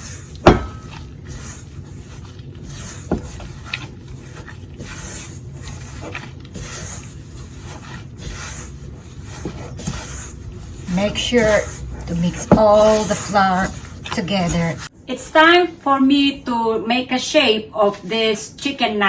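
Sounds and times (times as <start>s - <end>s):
rubbing and scraping in a bowl: 0.0s - 18.8s.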